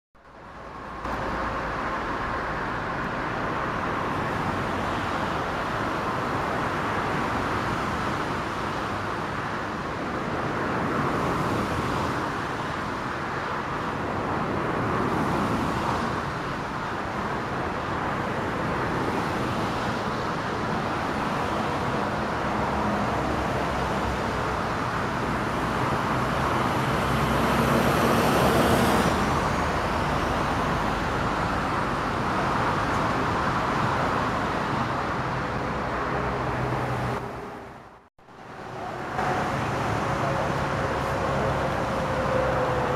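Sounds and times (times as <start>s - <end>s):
airport jet engine noise: 0.3s - 42.9s.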